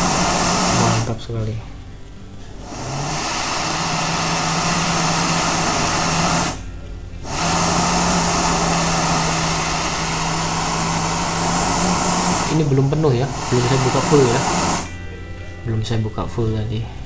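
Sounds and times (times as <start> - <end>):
gas stove hissing: 0.0 - 17.0.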